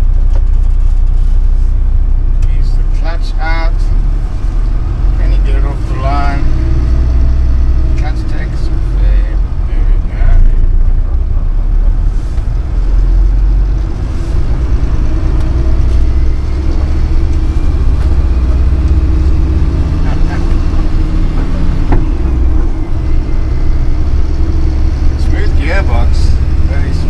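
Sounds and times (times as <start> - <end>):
truck diesel engine drone: 0.0 - 27.0.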